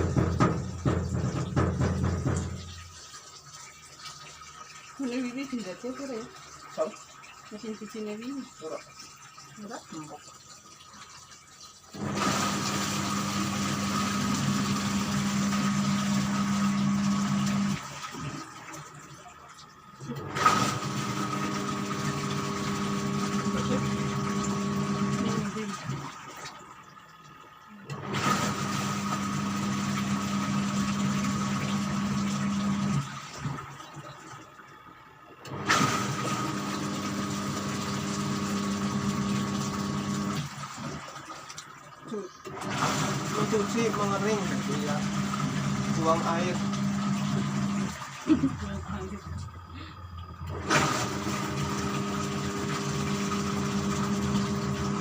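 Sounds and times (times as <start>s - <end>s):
washing machine motor humming: 0.0s - 55.0s.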